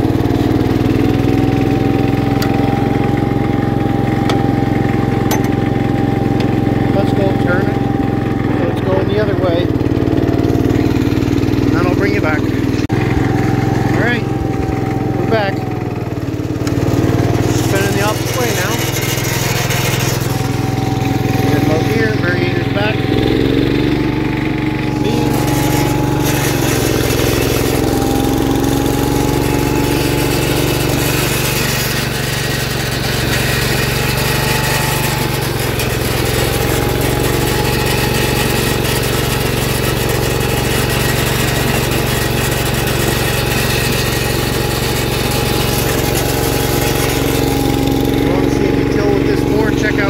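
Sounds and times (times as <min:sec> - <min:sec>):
tractor engine running under load: 0:00.0 - 0:50.0.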